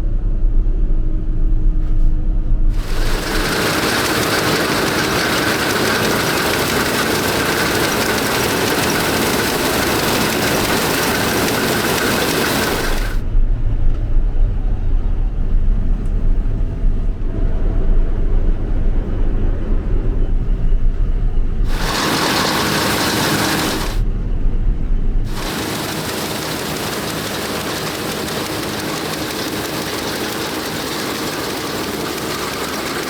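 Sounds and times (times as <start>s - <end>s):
engine rumble: 2.7s - 17.2s, 20.4s - 33.0s.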